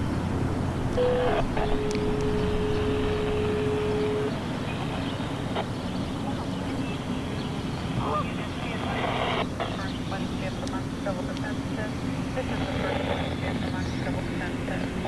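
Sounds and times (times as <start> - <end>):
faint warning siren tone: 0.0 - 15.0.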